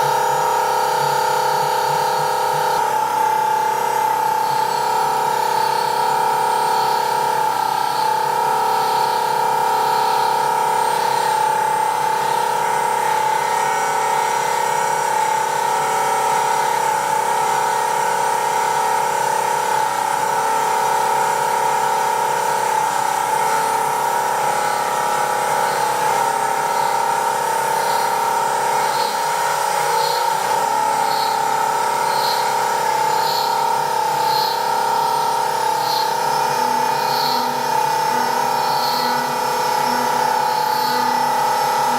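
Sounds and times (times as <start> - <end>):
power tool whining: 0.0 - 41.9.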